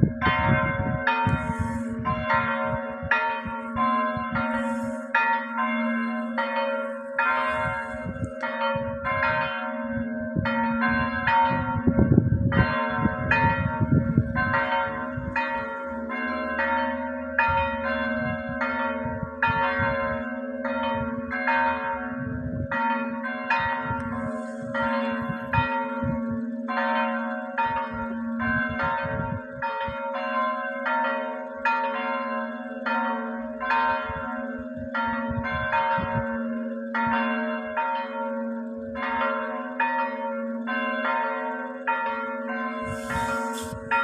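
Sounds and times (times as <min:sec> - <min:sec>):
church bells ringing: 0:00.0 - 0:44.0.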